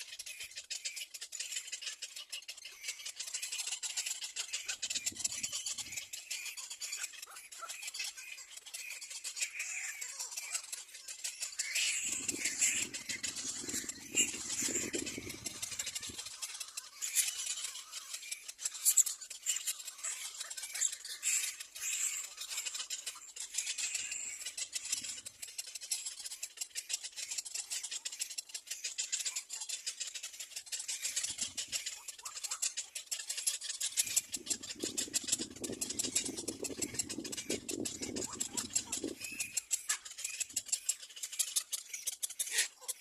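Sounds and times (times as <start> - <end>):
nestlings chittering: 1.2 - 43.0.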